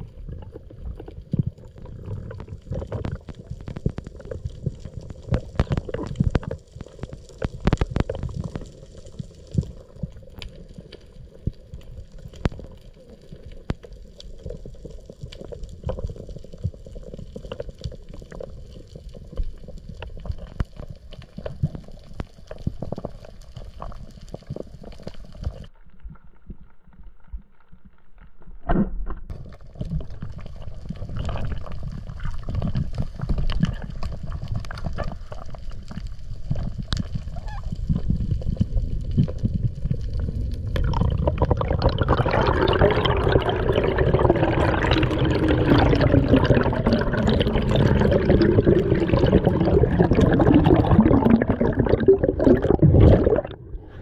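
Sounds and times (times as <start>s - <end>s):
muffled underwater rumble: 0.0s - 54.0s
underwater clicks and crackles: 0.0s - 54.0s.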